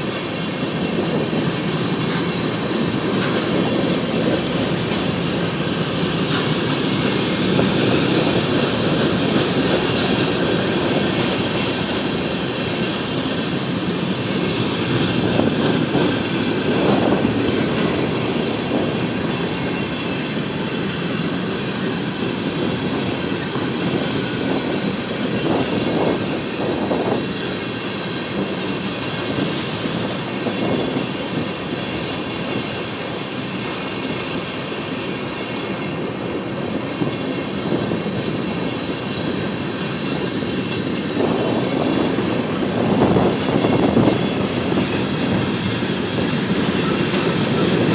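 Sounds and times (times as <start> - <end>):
rail clicks: 0.0 - 47.9
train wheels rumbling on rails: 0.0 - 47.9.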